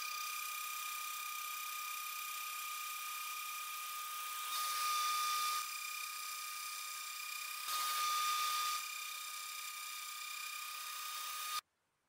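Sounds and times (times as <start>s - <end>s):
metal cutting noise: 0.0s - 11.6s
mill spindle whining: 0.0s - 11.6s.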